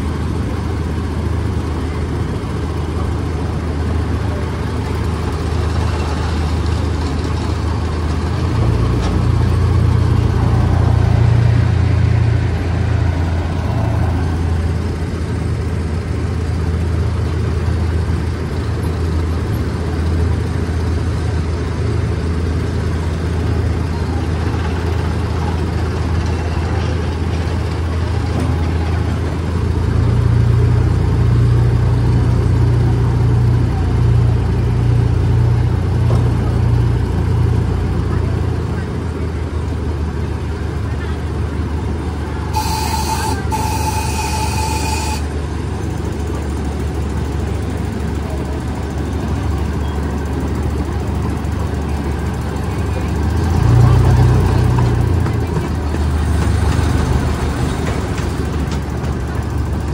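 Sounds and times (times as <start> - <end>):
miniature train engine drone: 0.0 - 59.9.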